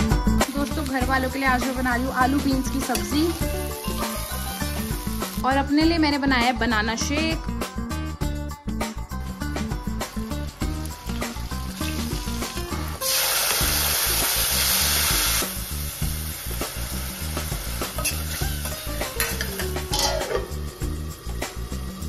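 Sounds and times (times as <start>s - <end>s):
tomatoes sizzling in hot oil: 0.0s - 5.9s, 9.9s - 22.0s.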